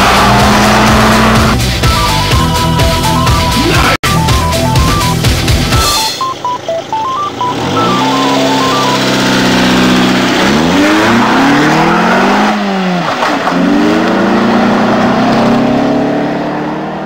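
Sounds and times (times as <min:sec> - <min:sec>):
car engine revving: 0:00.0 - 0:05.8, 0:07.2 - 0:17.0.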